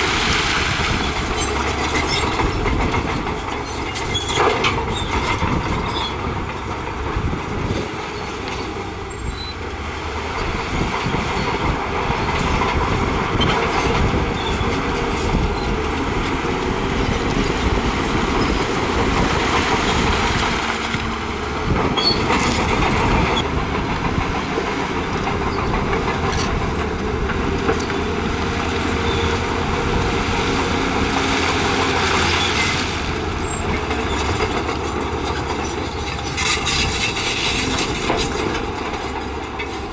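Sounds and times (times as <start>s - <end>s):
bulldozer diesel engine running: 0.0s - 39.9s
steel tracks clanking: 0.0s - 39.9s.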